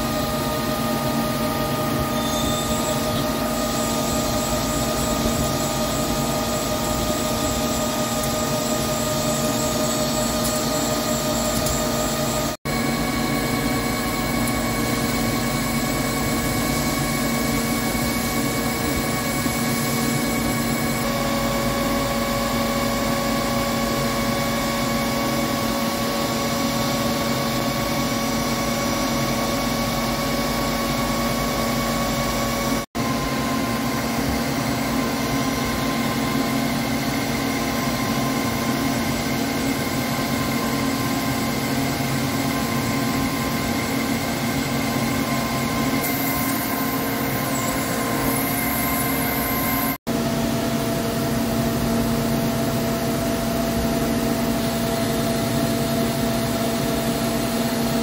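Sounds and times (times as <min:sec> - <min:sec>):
lathe machine drone with whine: 0:00.0 - 0:58.0.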